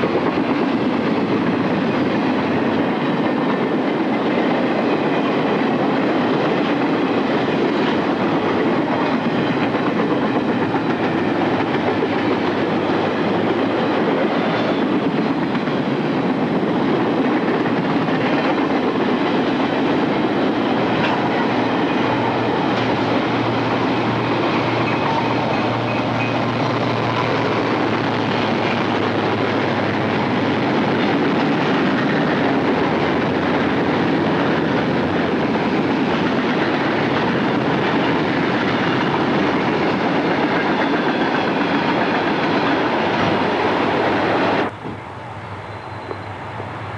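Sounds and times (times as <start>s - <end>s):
train wheels on track: 0.0s - 46.9s.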